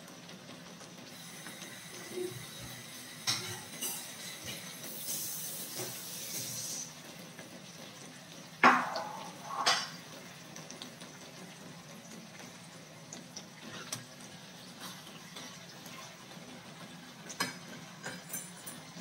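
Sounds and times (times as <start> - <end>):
sauce sizzling in a pan: 0.0 - 19.0.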